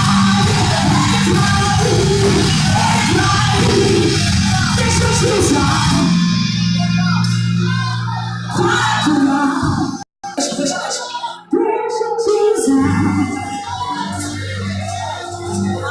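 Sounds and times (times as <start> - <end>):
band playing: 0.0 - 15.9
voices singing church music: 0.0 - 15.9.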